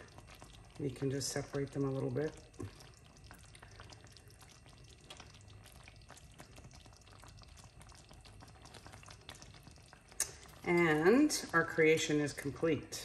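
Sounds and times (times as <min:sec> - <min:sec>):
broth bubbling in a pan: 0:00.0 - 0:13.0
low steady hum: 0:00.0 - 0:13.0.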